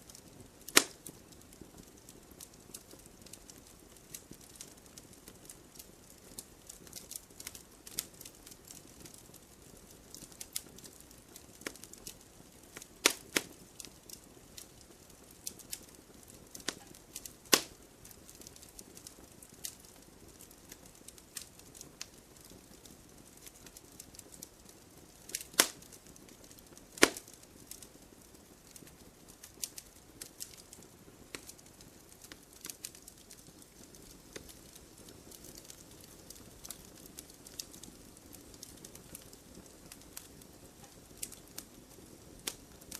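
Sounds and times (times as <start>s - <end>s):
fire pops and snaps: 0.0s - 42.9s
wood fire crackling: 0.0s - 42.9s.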